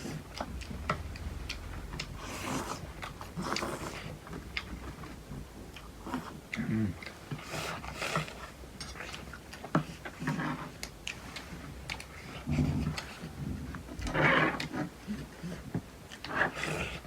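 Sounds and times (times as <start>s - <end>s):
chewing and mouth sounds: 0.0s - 17.0s.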